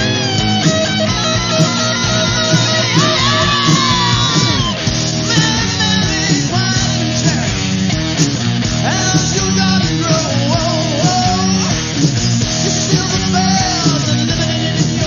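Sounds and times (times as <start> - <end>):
bass guitar: 0.0 - 15.0
drums keeping a steady beat: 0.0 - 15.0
electric guitar lead with bends: 0.0 - 15.0.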